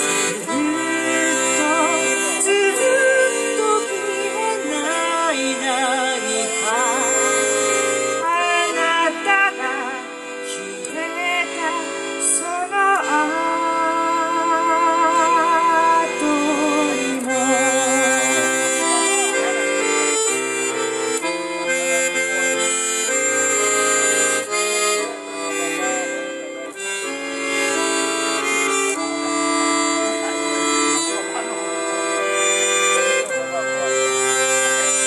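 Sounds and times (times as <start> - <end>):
piano accordion playing: 0.0 - 35.0.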